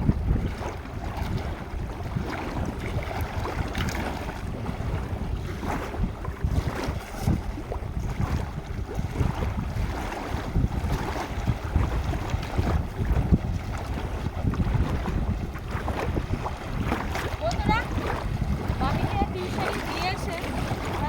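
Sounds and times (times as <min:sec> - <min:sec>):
river waves washing: 0:00.0 - 0:21.0
wind buffeting microphone: 0:00.0 - 0:21.0.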